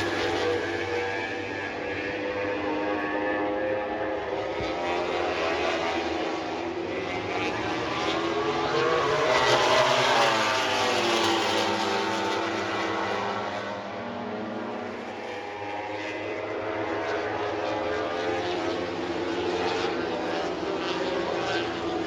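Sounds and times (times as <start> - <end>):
engine drone passing: 0.0 - 22.0.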